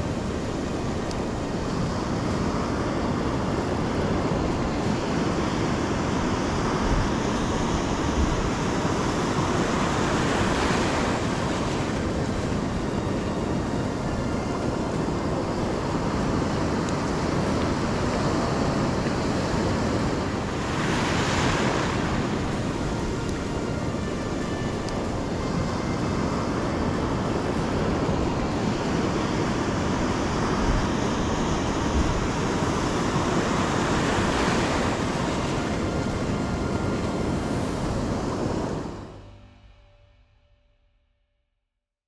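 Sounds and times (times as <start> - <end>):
sea surf breaking: 0.0 - 39.2.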